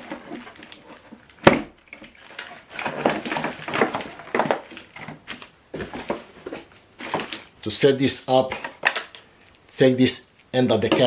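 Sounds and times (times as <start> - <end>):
hardware clicks and rustles: 0.0 - 7.6, 8.3 - 9.7.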